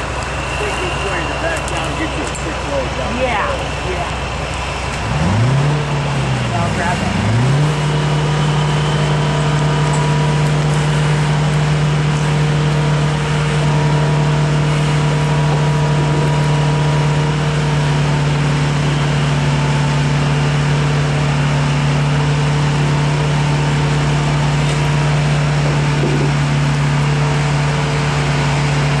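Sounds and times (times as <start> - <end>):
diesel truck engine droning: 0.0 - 29.0.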